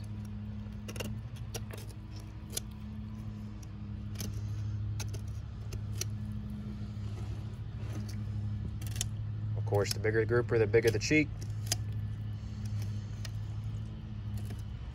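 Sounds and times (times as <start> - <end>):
knife clicking and scraping bone: 0.0 - 6.6, 8.0 - 10.0, 10.8 - 14.9
steady low hum: 0.0 - 14.9.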